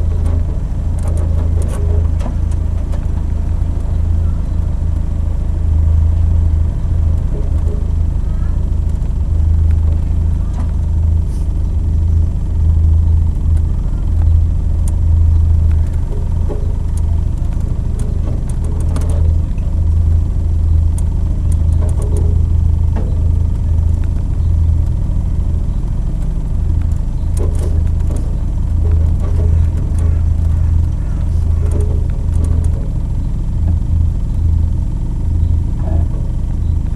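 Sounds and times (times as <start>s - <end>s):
sports car engine rumbling: 0.0s - 36.9s.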